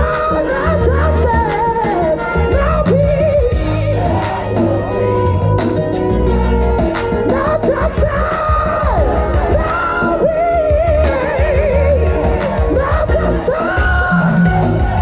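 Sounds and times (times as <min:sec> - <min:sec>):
choir singing: 0:00.0 - 0:05.8, 0:06.9 - 0:15.0
woman singing lead: 0:00.0 - 0:15.0.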